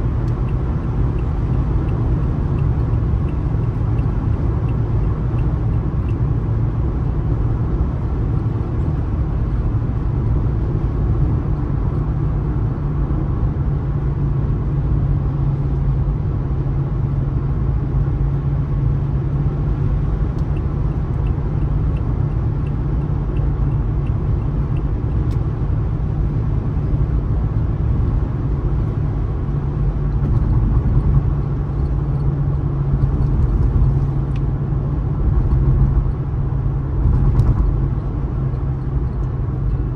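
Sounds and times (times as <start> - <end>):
car driving along road: 0.0 - 39.9.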